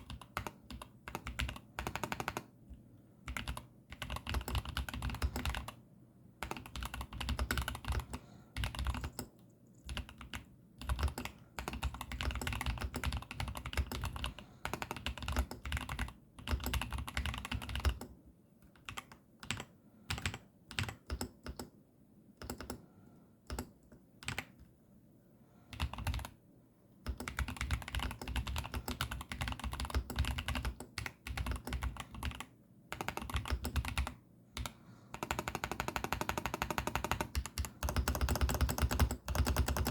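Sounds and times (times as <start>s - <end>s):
mechanical keyboard typing: 0.0s - 2.5s, 3.2s - 5.8s, 6.4s - 21.7s, 22.4s - 22.8s, 23.5s - 24.6s, 25.7s - 26.4s, 27.0s - 39.9s.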